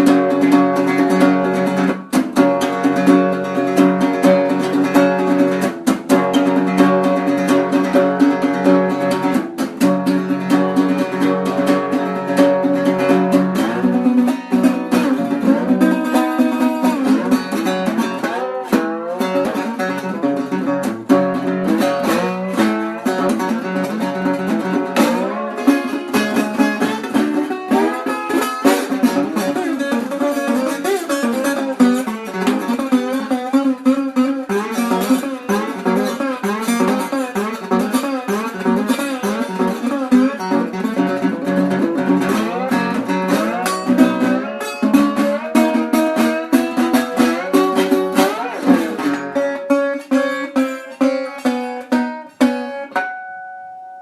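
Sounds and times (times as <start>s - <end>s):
blues guitar plucking: 0.0s - 54.0s.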